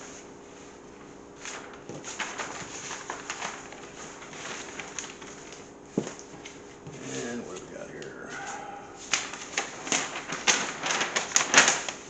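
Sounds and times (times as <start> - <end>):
faint steady hum: 0.0 - 12.0
paper rustling: 0.0 - 12.0
paper slapping on table: 1.4 - 7.6, 8.3 - 12.0.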